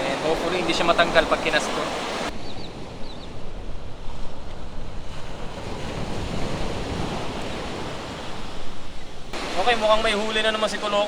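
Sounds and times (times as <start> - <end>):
ocean surf washing onto beach: 0.0 - 11.0
wind buffeting microphone: 0.0 - 11.0.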